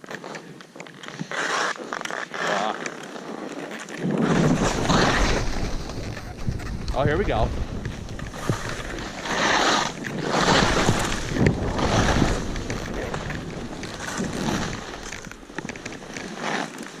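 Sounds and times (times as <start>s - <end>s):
skis scraping across snow: 0.0s - 17.0s.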